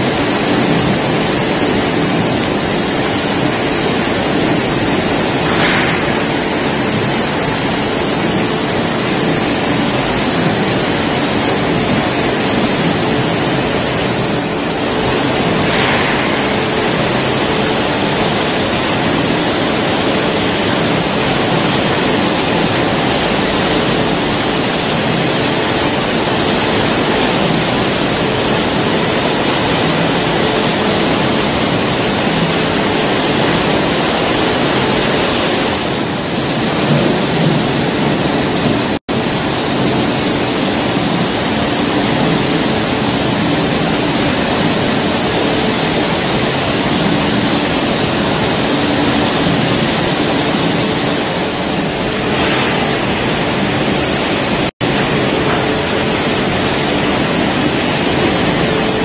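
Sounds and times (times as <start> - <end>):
production line machinery rushing: 0.0 - 59.0.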